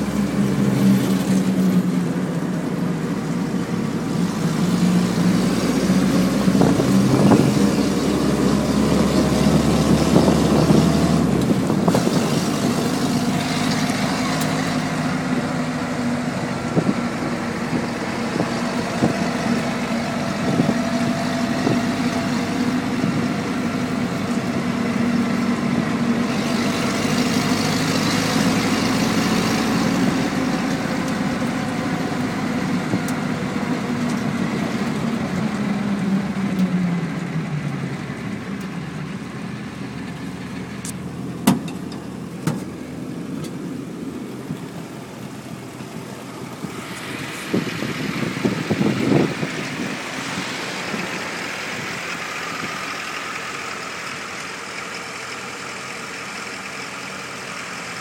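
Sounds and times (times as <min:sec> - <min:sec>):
jeep engine running: 0:00.0 - 0:58.0.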